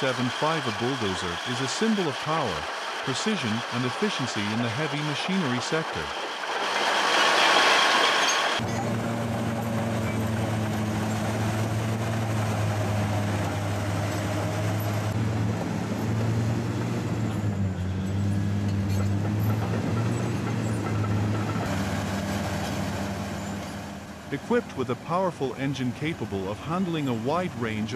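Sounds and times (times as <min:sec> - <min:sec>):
large diesel engine running: 0:00.0 - 0:27.9.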